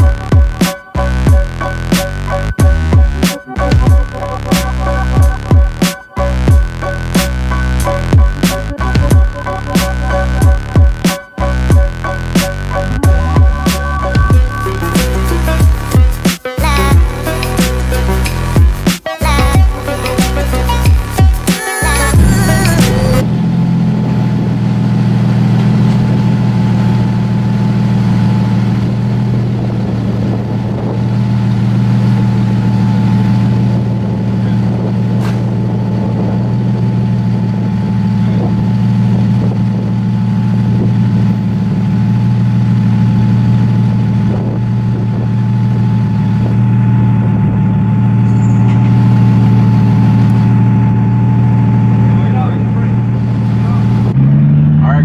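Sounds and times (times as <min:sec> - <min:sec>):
car engine exhaust drone: 0:00.0 - 0:55.0.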